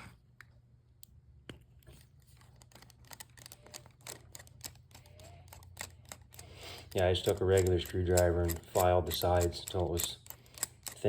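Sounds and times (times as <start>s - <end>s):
low steady hum: 0.0s - 11.0s
screwdriver clicking and scraping: 1.9s - 11.0s.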